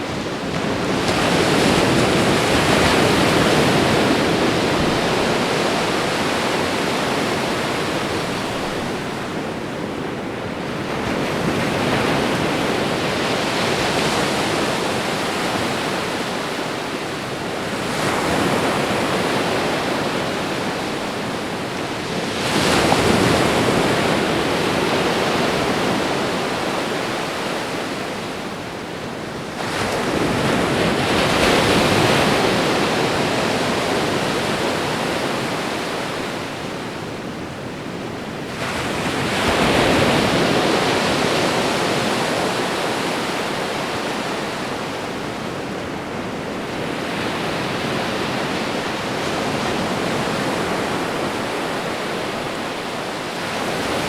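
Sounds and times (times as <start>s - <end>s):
ocean waves washing onto shore: 0.0s - 54.0s.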